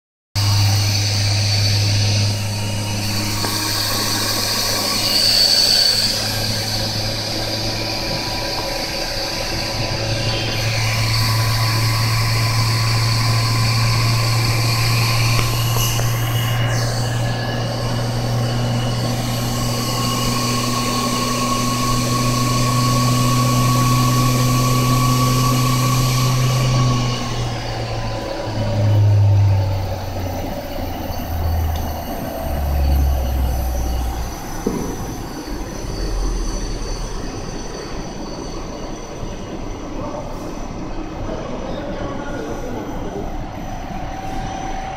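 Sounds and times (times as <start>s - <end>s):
spindle motor humming and whining: 0.4s - 44.9s.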